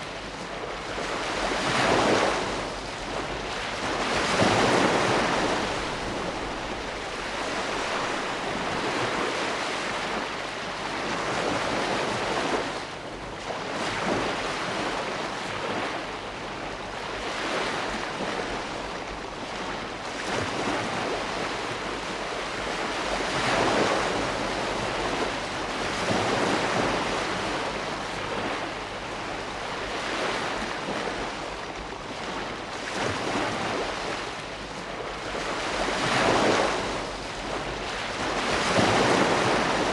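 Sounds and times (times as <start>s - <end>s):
ocean surf washing in: 0.0s - 39.9s.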